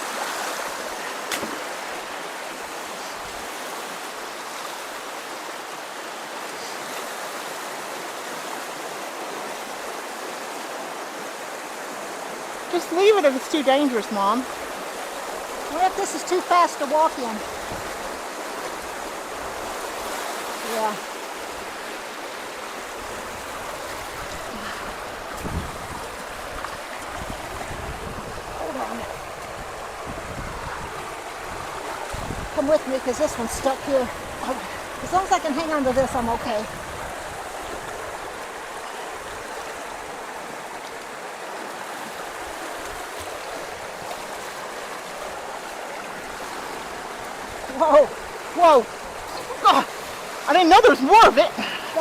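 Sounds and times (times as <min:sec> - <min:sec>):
creek water rushing: 0:00.0 - 0:52.0.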